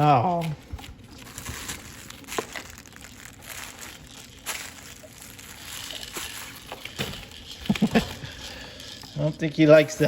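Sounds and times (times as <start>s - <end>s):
toy book rustling and crinkling: 0.0s - 10.0s.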